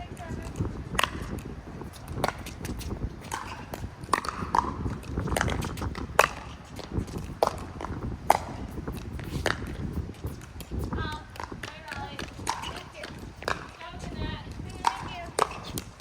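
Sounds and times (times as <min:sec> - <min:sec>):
ball bouncing on court: 0:00.0 - 0:16.0
paddles striking ball: 0:00.0 - 0:16.0
wind on microphone: 0:00.0 - 0:16.0.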